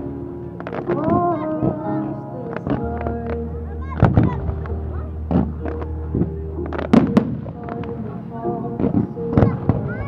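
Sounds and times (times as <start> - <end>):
fireworks bangs: 0.5 - 8.2, 8.8 - 10.0.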